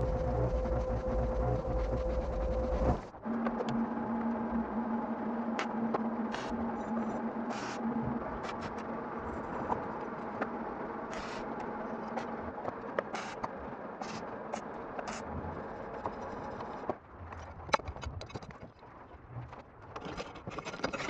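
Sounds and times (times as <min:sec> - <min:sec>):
low hum: 0:00.0 - 0:19.6.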